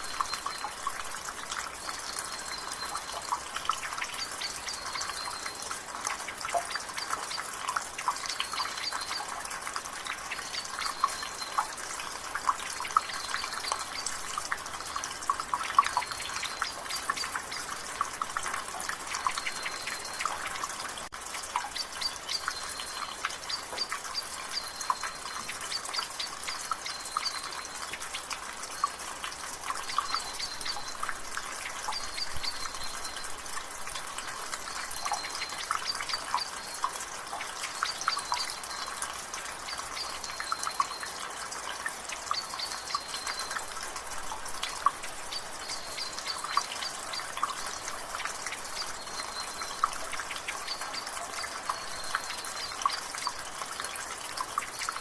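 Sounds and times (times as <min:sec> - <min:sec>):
drizzle patter: 0:00.0 - 0:55.0
water dripping from gutter: 0:00.0 - 0:55.0.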